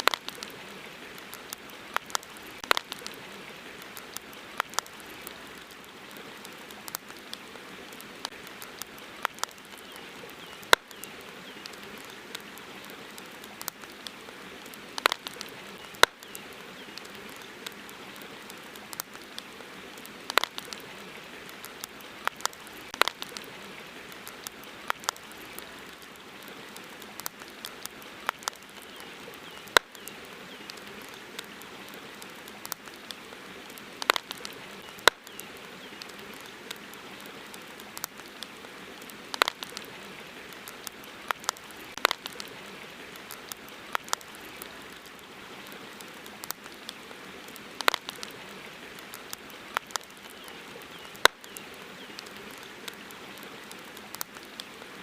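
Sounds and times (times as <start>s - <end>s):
campfire crackling and popping: 0.0s - 55.0s
river water flowing: 0.0s - 55.0s.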